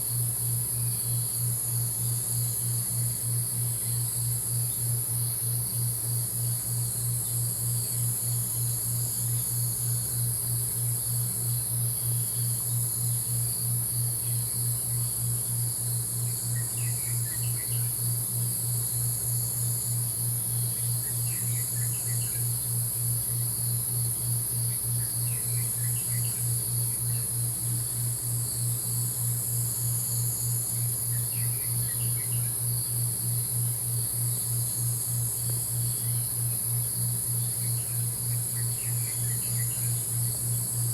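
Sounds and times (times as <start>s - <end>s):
insect chorus: 0.0s - 40.9s
low pulsing hum: 0.0s - 40.9s.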